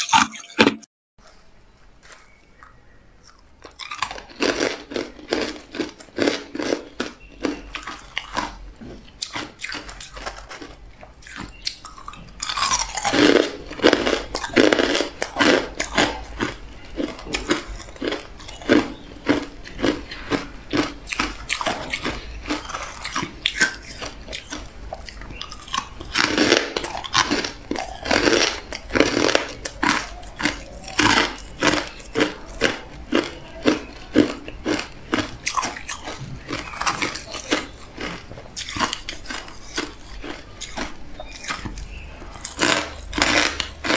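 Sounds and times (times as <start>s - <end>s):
crushed ice being chewed: 1.2s - 43.9s.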